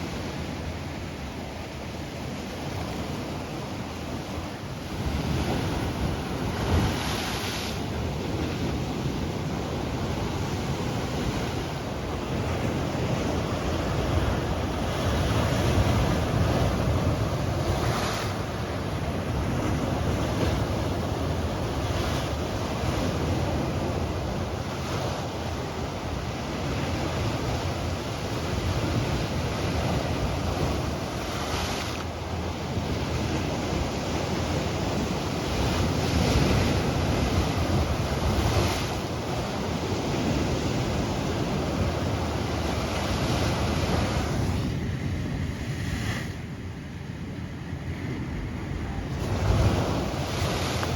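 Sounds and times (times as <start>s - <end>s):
waves breaking: 0.0s - 46.6s, 48.0s - 50.9s.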